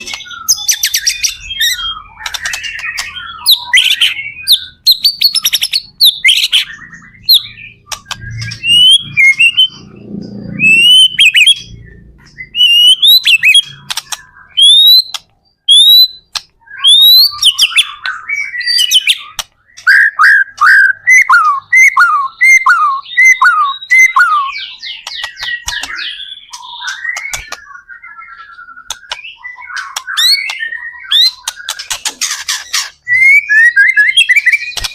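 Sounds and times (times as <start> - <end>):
repeated falling bird notes: 0.0 - 34.9
songbird singing: 0.0 - 34.9.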